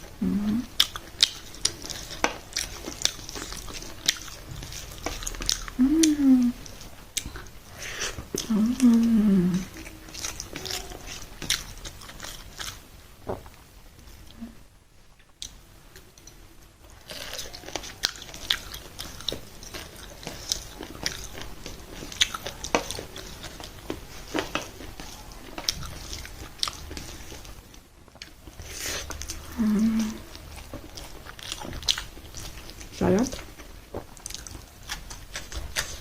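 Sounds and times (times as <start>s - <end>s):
chewing and biting mouth sounds: 0.4s - 12.9s, 15.4s - 36.0s.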